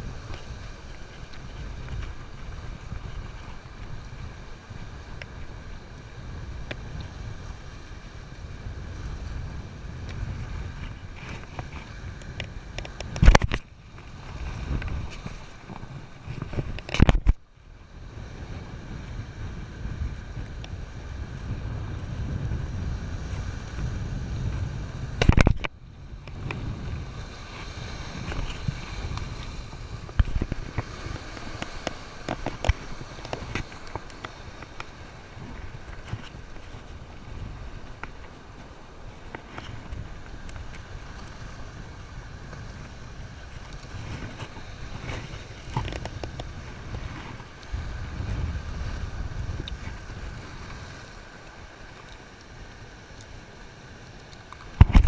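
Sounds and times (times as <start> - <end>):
surf washing against rocks: 0.0 - 55.0
wind buffeting microphone: 0.0 - 55.0.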